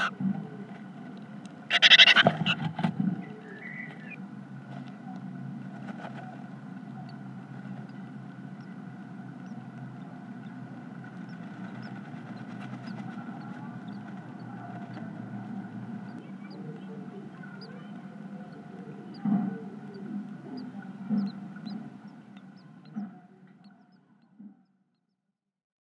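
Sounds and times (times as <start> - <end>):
steady low hum: 0.0 - 25.1
chicks peeping: 1.7 - 24.4.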